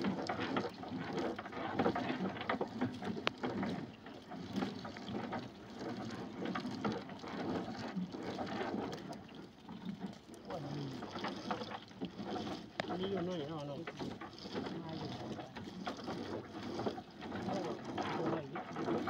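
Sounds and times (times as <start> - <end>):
net and fish tapping and rustling: 0.0 - 19.0
water dripping and splashing: 0.0 - 19.0.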